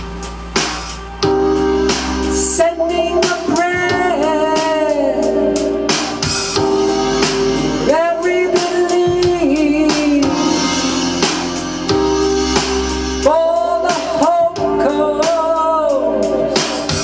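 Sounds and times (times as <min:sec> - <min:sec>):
drums: 0:00.0 - 0:17.0
person singing: 0:00.9 - 0:12.1, 0:13.1 - 0:17.0.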